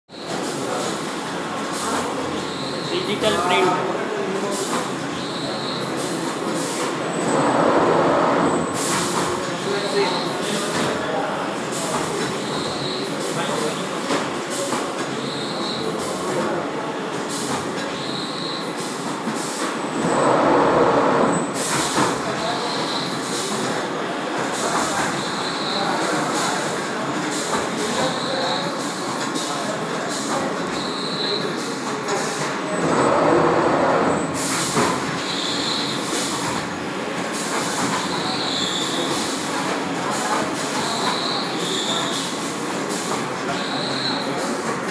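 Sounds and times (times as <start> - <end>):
printing machine rumbling: 0.1 - 44.9.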